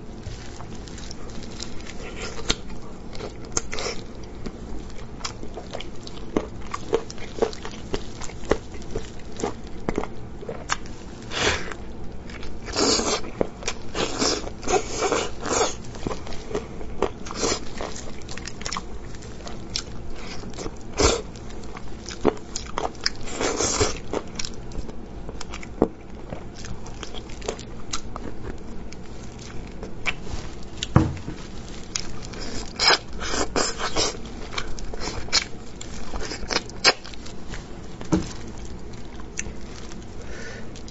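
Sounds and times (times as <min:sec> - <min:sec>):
biting and chewing meat: 0:00.0 - 0:40.9.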